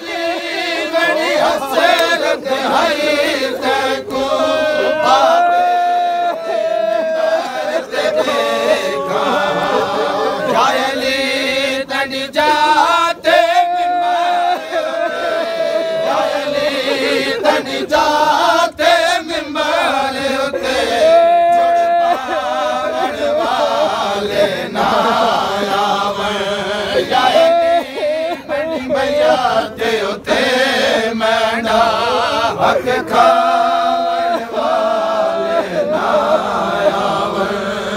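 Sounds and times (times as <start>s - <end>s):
men chanting a lament in unison: 0.0s - 37.9s.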